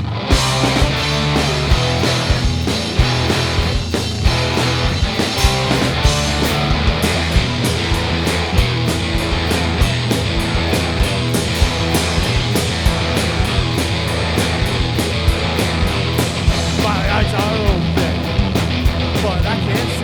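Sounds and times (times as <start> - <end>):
bass guitar: 0.0 - 20.0
electric guitars: 0.0 - 20.0
drum and cymbal hits: 0.3 - 20.0.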